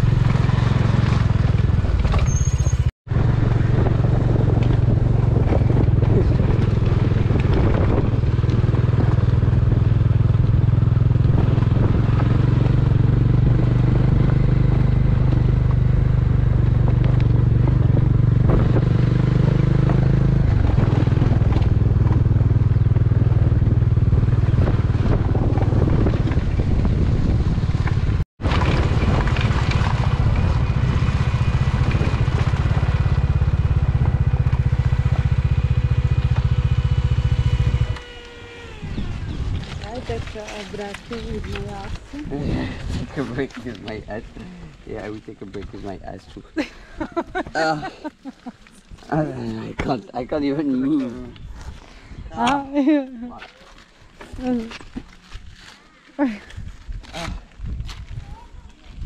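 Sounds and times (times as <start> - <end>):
motorcycle engine running: 0.0 - 51.8, 52.4 - 59.0
gravel rattle: 0.0 - 59.0.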